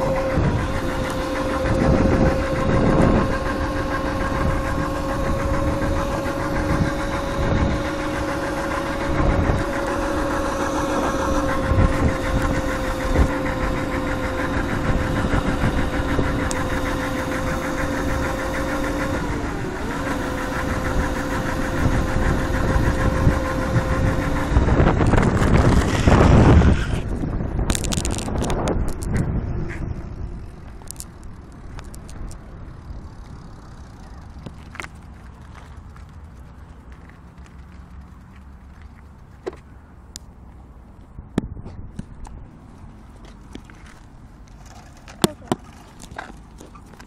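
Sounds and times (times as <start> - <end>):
loud rumbling noise: 0.0 - 39.1
mini motorbike engine whining: 0.0 - 39.8, 43.1 - 47.0.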